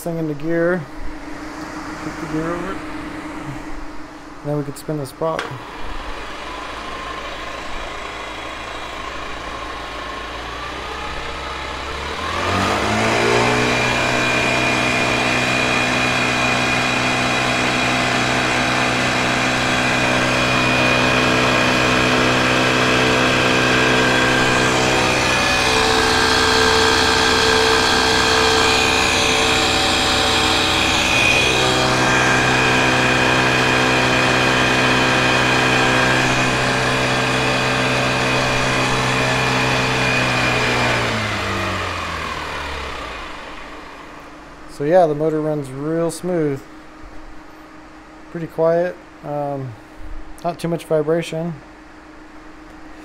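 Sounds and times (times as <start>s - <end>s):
electric motor whine: 0.0s - 46.5s.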